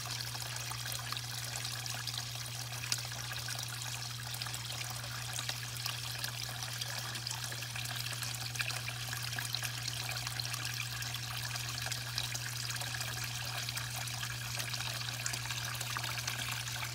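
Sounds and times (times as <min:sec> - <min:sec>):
water splashing into a pond: 0:00.0 - 0:16.9.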